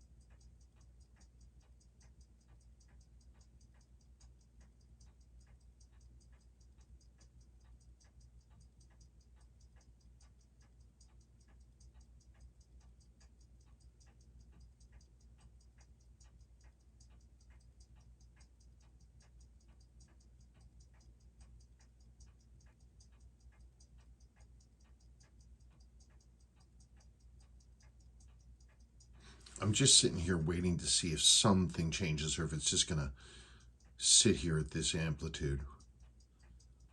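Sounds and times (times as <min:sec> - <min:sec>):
watch ticking rapidly: 0:00.0 - 0:36.9.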